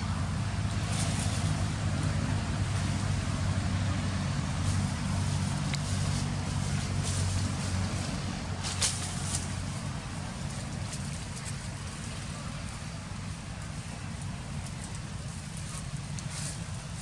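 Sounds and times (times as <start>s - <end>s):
faint rustles and ticks: 0.0s - 17.0s.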